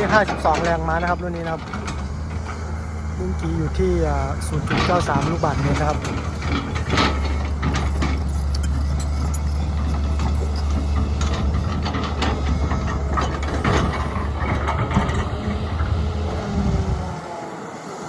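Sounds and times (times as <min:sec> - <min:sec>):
metallic clanks and rattles: 0:00.0 - 0:16.2
excavator engine drone: 0:00.0 - 0:18.0.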